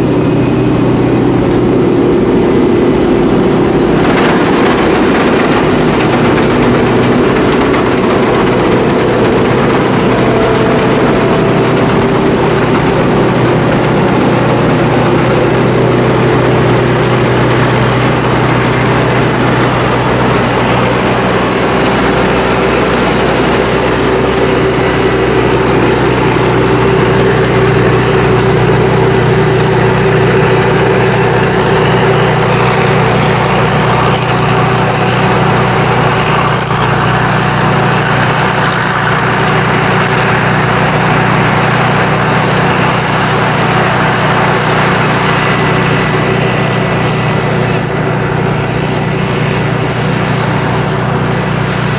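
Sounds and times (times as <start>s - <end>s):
combine harvester droning: 0.0s - 51.9s
thin high whine: 0.0s - 51.9s.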